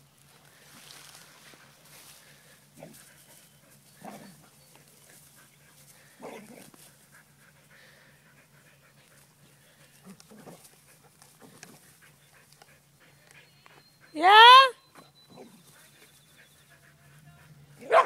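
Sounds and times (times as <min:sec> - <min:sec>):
faint dog sounds: 0:01.4 - 0:18.0.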